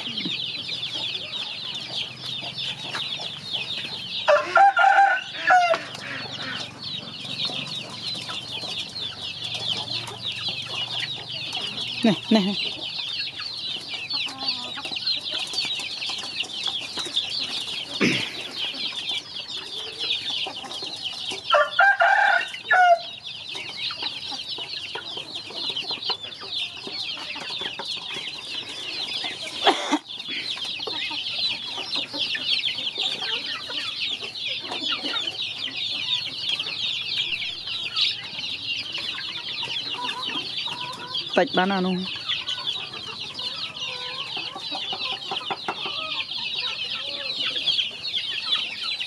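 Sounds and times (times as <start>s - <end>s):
chicks and ducklings peeping: 0.0s - 49.0s.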